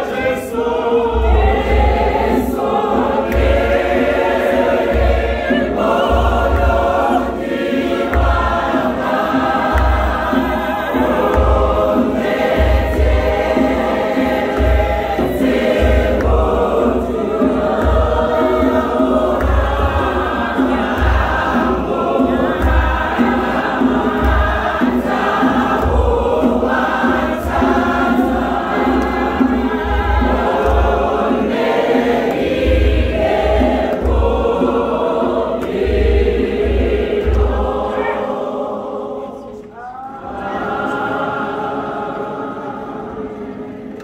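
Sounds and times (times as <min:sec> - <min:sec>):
congregation singing a hymn: 0:00.0 - 0:44.0
low regular beat: 0:01.0 - 0:38.1.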